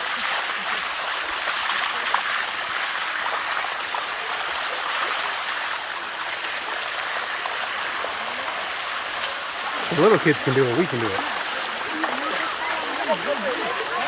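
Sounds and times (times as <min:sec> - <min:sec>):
waterfall splashing over rocks: 0:00.0 - 0:14.0.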